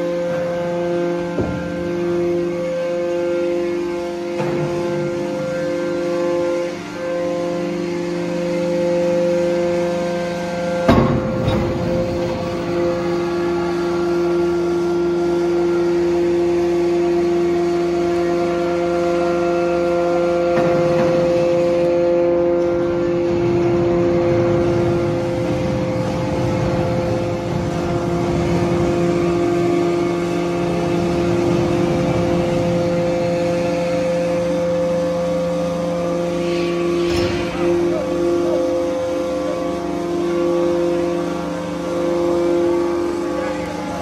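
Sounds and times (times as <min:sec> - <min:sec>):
hydraulic motor and pump humming: 0:00.0 - 0:44.0.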